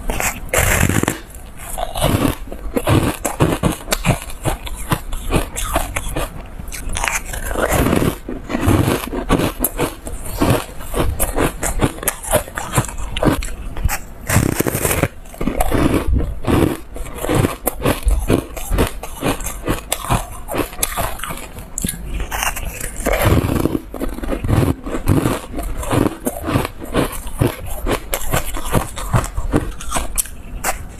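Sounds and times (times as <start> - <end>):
chewing and crunching ice: 0.0 - 30.9.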